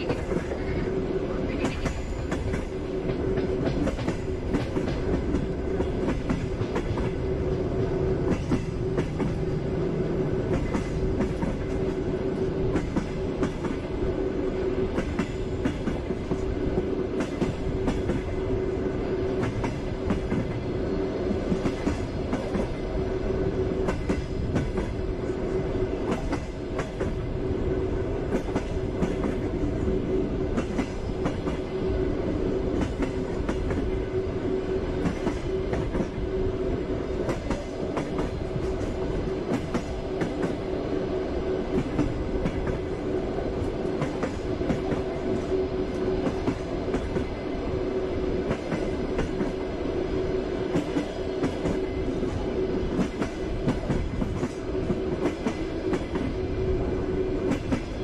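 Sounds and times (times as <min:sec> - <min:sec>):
train wheels clacking: 0:00.0 - 0:14.0, 0:14.6 - 0:27.3, 0:28.2 - 0:40.7, 0:41.5 - 0:49.7, 0:50.4 - 0:58.0
train rumble: 0:00.0 - 0:58.0.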